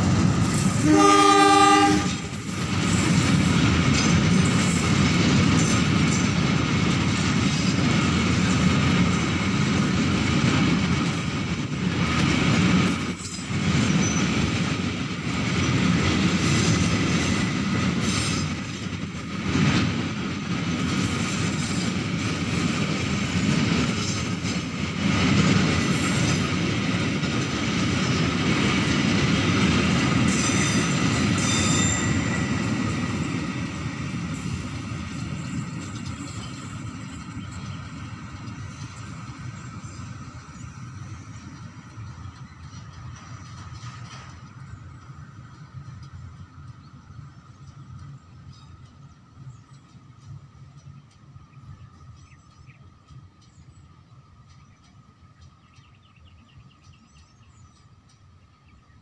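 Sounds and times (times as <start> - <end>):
freight train wheels rattling: 0.0 - 59.0.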